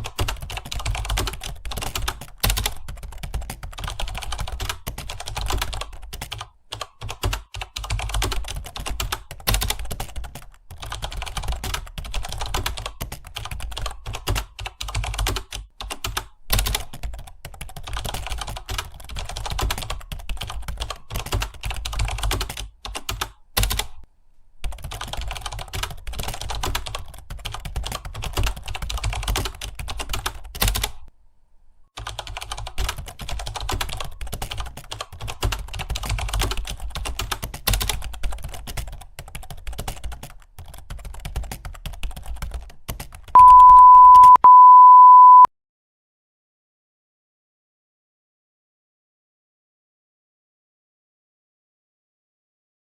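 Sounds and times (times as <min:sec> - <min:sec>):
fast keyboard typing: 0:00.0 - 0:24.0, 0:24.6 - 0:31.1, 0:32.0 - 0:45.4.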